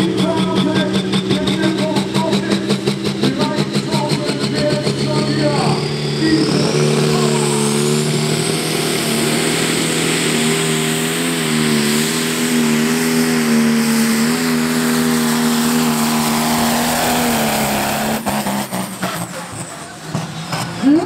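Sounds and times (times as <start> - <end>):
turbo whine rising: 0.0 - 19.3
diesel engine at high revs: 0.0 - 21.0.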